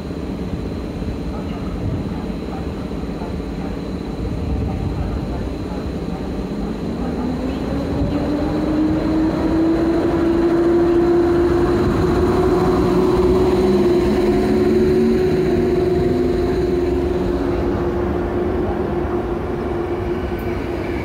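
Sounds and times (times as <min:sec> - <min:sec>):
train mechanical hum: 0:00.0 - 0:21.0.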